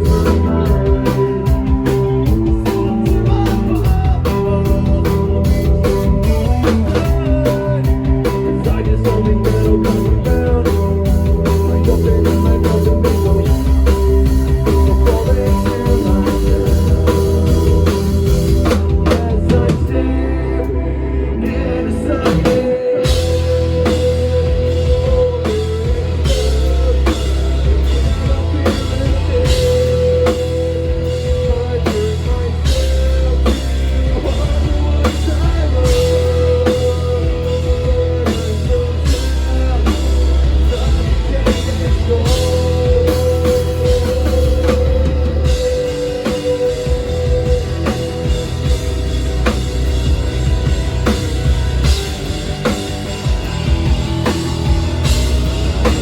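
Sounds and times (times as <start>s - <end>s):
drums: 0.0s - 56.0s
live rock band playing: 0.0s - 56.0s.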